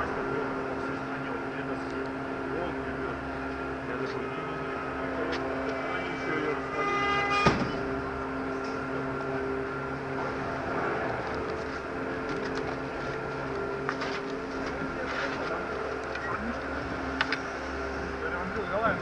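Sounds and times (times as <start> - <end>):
chairlift machinery humming: 0.0 - 19.0.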